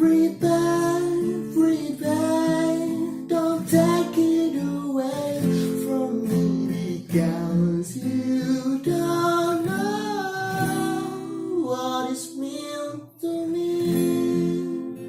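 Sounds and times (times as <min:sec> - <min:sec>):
acoustic guitar: 0:00.0 - 0:15.0
person singing long notes: 0:00.0 - 0:15.0.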